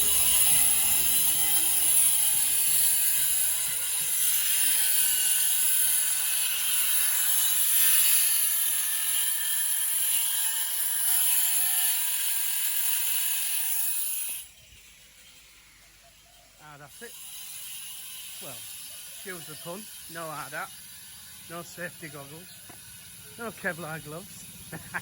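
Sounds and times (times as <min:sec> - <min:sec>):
angle grinder grinding: 0:00.0 - 0:15.6, 0:16.6 - 0:25.0.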